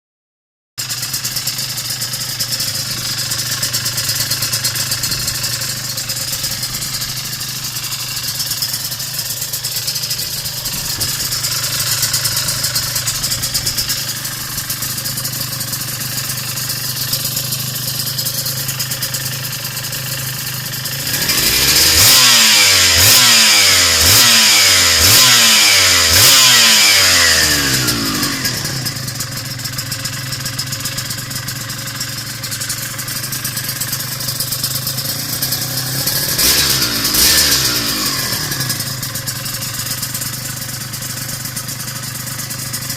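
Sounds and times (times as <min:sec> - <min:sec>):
motorcycle engine idling and revving: 0:00.8 - 0:42.9.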